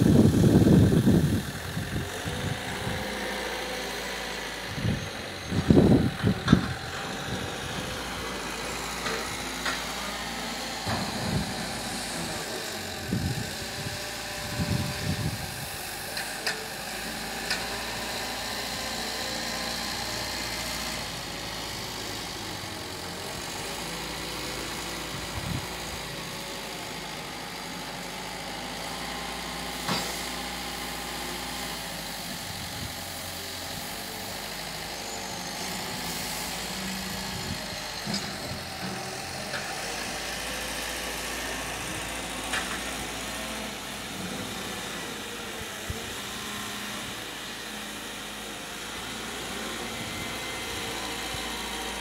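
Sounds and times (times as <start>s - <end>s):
diesel machinery running: 0.0s - 52.0s.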